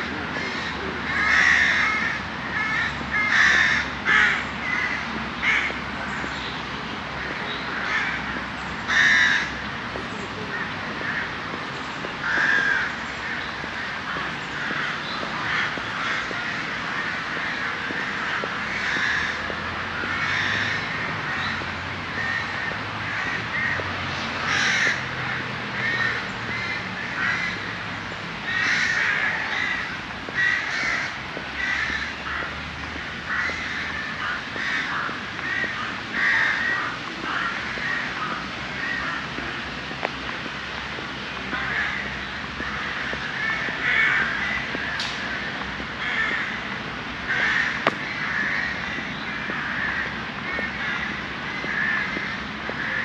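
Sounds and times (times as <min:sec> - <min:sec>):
birds calling: 0:00.0 - 0:53.0.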